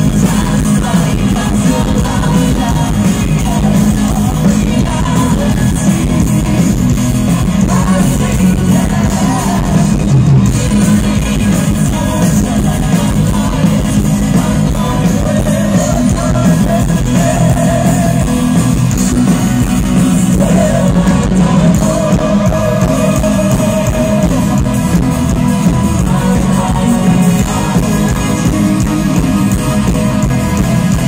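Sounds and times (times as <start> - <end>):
metal band playing: 0.0 - 31.0
sung vocals: 0.0 - 31.0.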